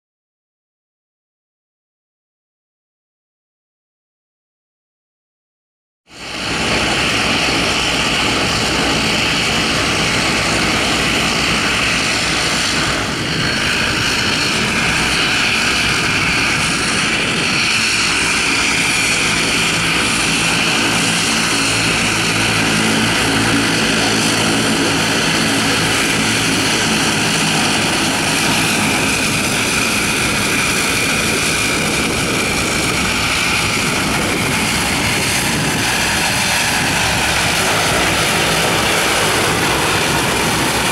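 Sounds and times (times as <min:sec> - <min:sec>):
turboprop engines running: 0:06.1 - 0:40.9.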